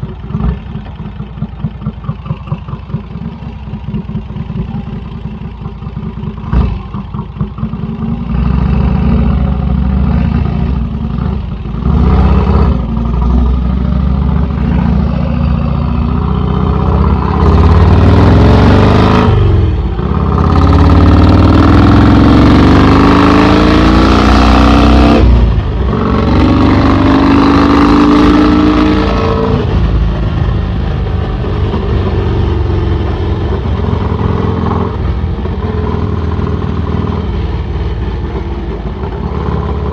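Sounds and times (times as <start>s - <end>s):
motorcycle accelerating hard: 5.7s - 39.9s.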